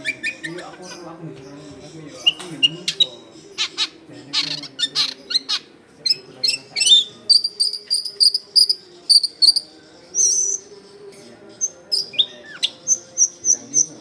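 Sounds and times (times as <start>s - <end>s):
shrike singing: 0.0s - 14.0s.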